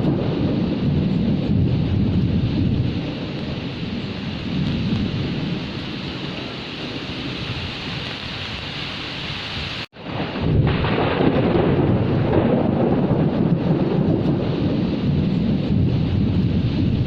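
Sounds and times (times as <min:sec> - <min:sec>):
rumbling thunder: 0:00.0 - 0:08.8, 0:09.6 - 0:17.0
heavy rain: 0:00.0 - 0:17.0.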